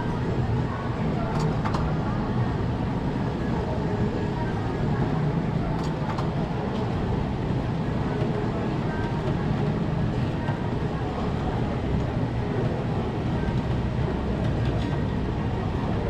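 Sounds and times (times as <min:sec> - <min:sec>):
low street rumble: 0:00.0 - 0:16.0
murmur of voices: 0:00.0 - 0:16.0.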